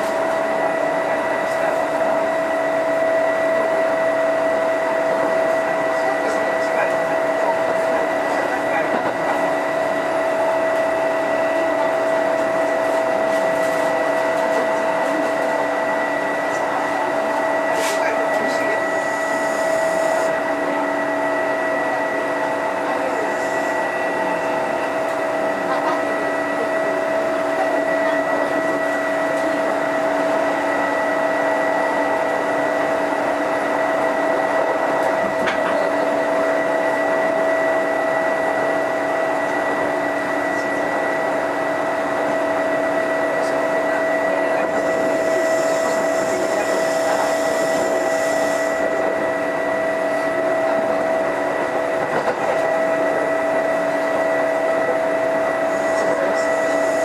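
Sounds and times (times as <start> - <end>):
train car rumble: 0.0 - 57.0.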